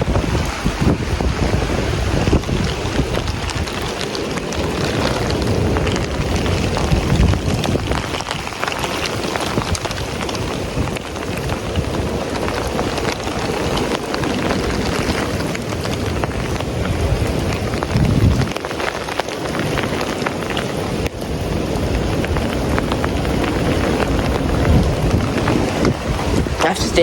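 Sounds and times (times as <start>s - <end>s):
heavy rain pouring: 0.0s - 27.0s
wind rumbling on microphone: 0.0s - 27.0s.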